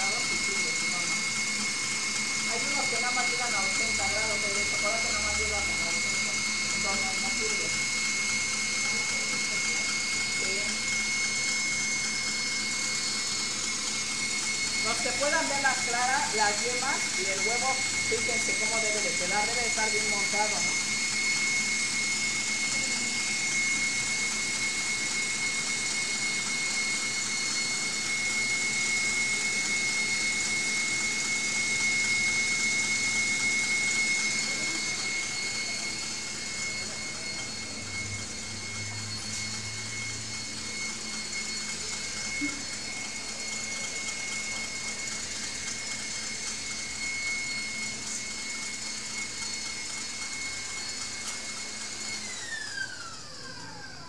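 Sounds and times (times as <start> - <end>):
stand mixer whirring with whine: 0.0 - 54.0.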